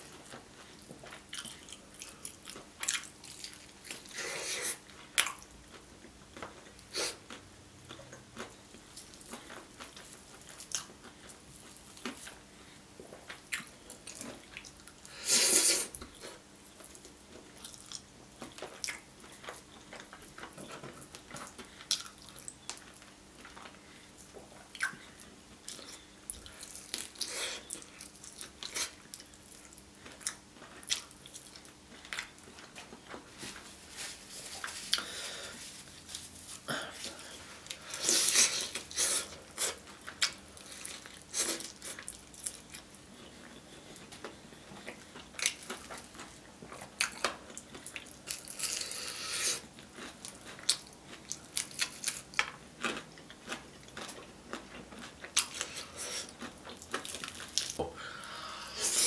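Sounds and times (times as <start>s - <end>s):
chewing fried chicken: 0.0s - 59.0s.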